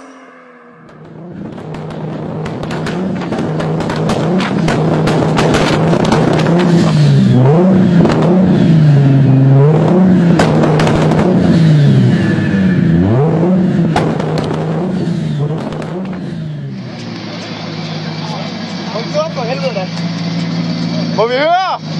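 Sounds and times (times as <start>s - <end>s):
car engine revving: 0.0s - 21.9s
exhaust crackles: 0.0s - 21.9s.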